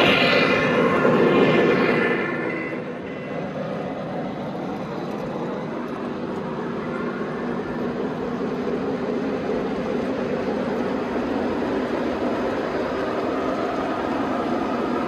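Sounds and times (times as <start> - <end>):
model trains rumbling on track: 0.0 - 15.0.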